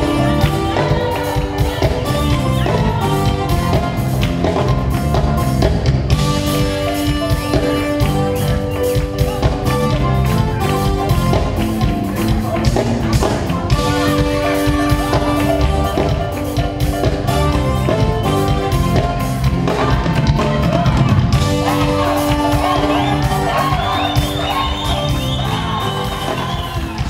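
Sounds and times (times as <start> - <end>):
music with drum beat and bass: 0.0 - 27.0.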